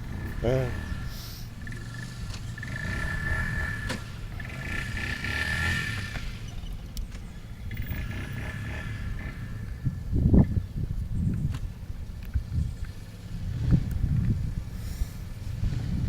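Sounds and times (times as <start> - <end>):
distant vehicle engine running: 0.0 - 16.0.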